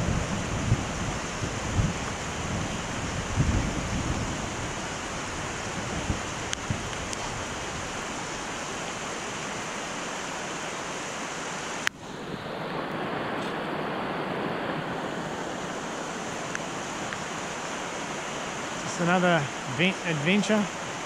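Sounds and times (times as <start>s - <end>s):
rain: 0.0s - 21.0s
river rushing: 0.0s - 21.0s.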